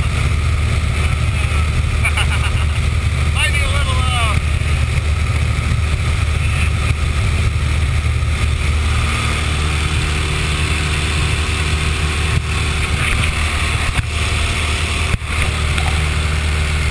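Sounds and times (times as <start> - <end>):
engine drone: 0.0 - 16.9.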